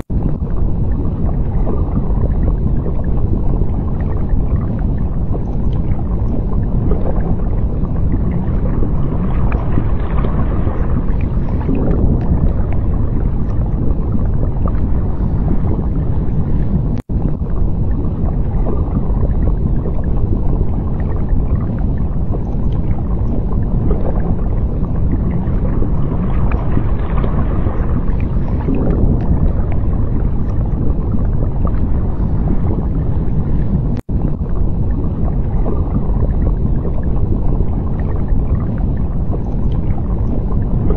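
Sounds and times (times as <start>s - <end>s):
deep underwater rumble: 0.0s - 40.9s
water gurgling: 0.0s - 40.9s.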